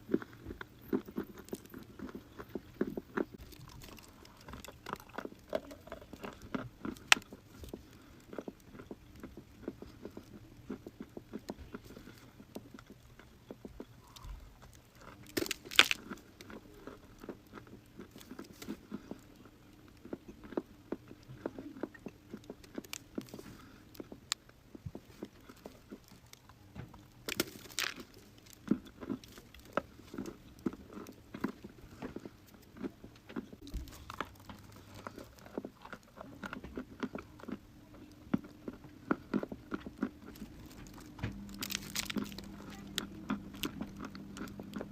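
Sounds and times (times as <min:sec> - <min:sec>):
chewing crisp crunches: 0:00.0 - 0:44.9.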